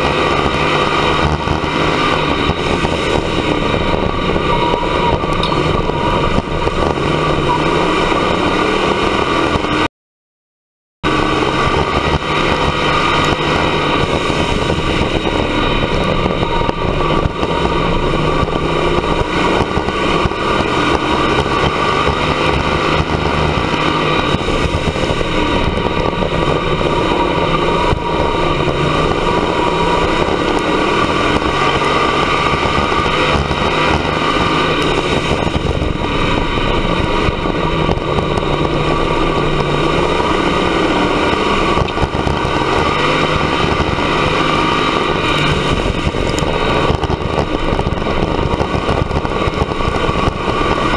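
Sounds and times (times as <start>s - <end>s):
race car engine running hard: 0.0s - 9.9s, 11.0s - 50.9s.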